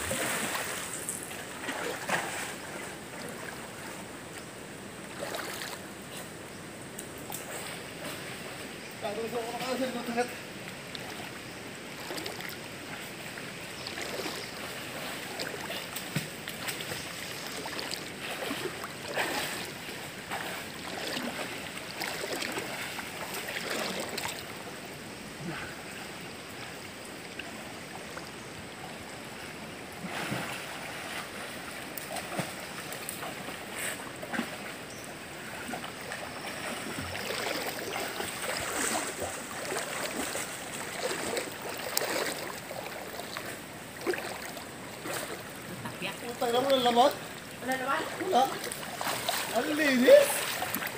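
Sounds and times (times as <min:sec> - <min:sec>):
river water splashing: 0:00.0 - 0:50.9.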